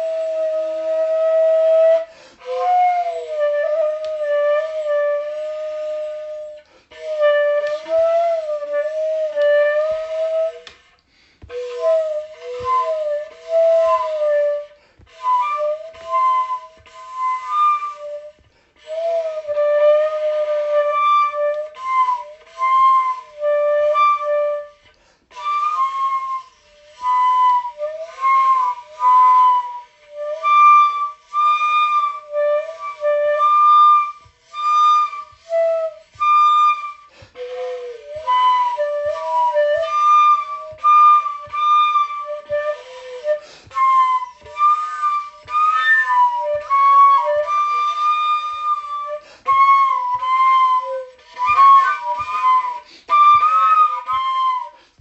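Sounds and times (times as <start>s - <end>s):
flute melody: 0.0s - 55.0s.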